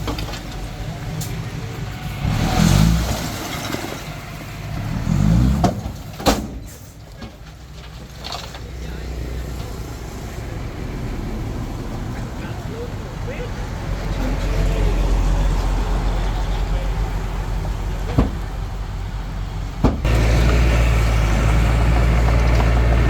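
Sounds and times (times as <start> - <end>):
bulldozer diesel engine revving: 0.0 - 6.6, 8.7 - 23.0.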